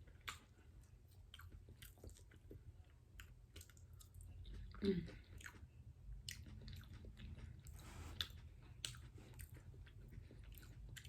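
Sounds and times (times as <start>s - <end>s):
chewing food: 0.0s - 11.0s.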